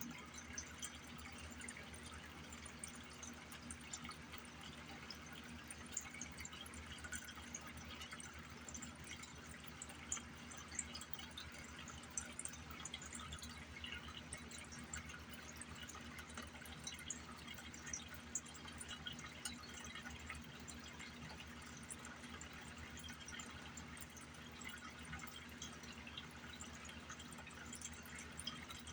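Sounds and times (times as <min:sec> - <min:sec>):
water trickling and dripping: 0:00.0 - 0:28.9.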